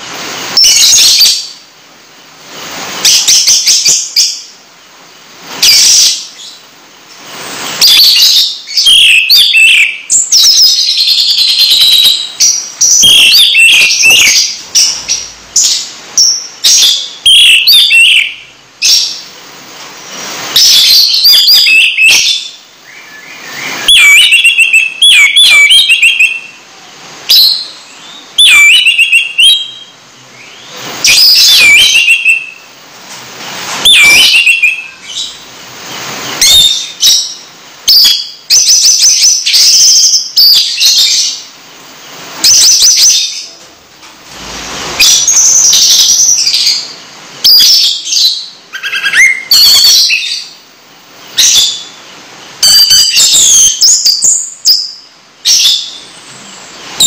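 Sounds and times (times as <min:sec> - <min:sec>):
caged bird singing: 0:05.6 - 0:19.4, 0:20.0 - 0:26.6, 0:27.3 - 0:32.7, 0:33.6 - 0:43.6, 0:44.4 - 0:50.6, 0:51.3 - 0:57.0.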